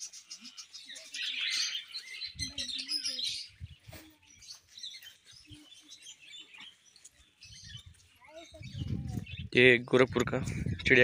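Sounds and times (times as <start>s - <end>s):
budgerigars chirping and chattering: 0.0s - 11.0s.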